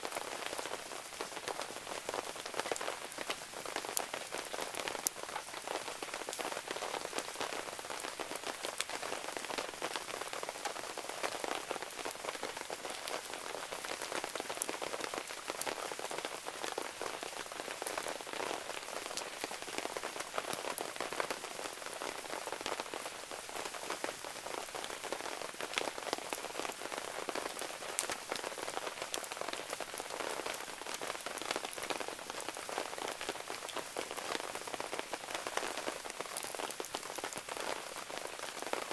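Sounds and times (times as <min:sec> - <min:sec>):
raindrops ticking on surfaces: 0:00.0 - 0:38.9
steady rain falling: 0:00.0 - 0:38.9.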